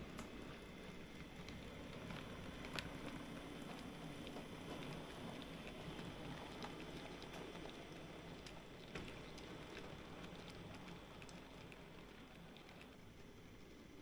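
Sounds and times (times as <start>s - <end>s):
model train rolling on track: 0.0s - 14.0s.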